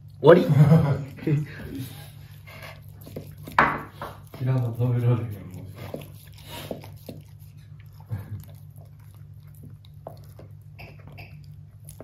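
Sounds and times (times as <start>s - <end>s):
dog chewing a bone: 0.0s - 12.0s.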